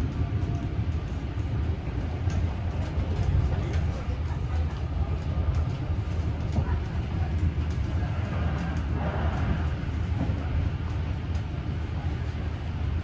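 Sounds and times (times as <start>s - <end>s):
rumble of wheels on track: 0.0s - 13.0s.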